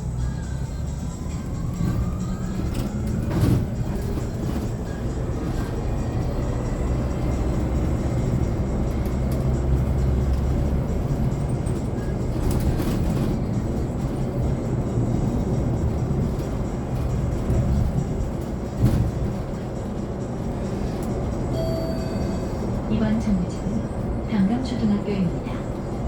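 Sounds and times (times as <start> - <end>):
bus road and tyre rumble: 0.0 - 26.0.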